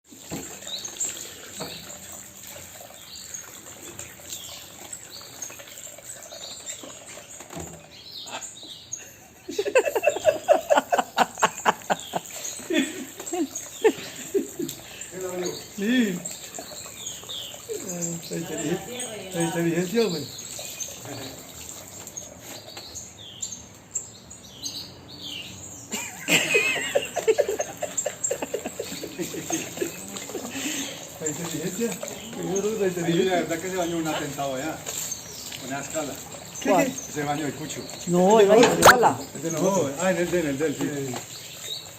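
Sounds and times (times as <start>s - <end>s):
bird chirping: 2.8s - 41.9s.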